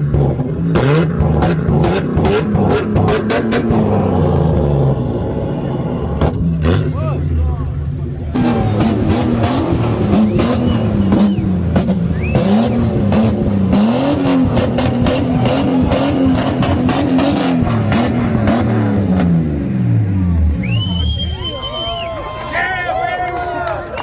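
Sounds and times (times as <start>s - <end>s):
car engine revving: 0.0s - 22.0s
exhaust cracks: 0.0s - 22.1s.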